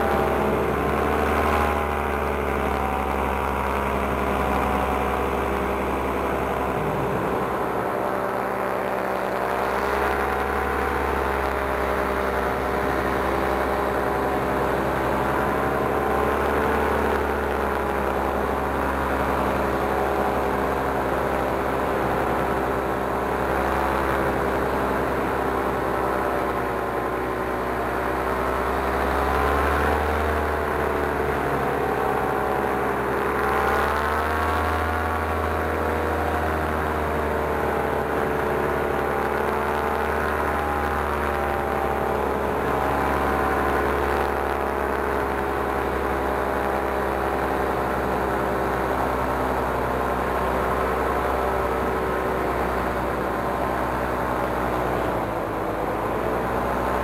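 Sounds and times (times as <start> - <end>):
paramotor engine and propeller: 0.0 - 57.0.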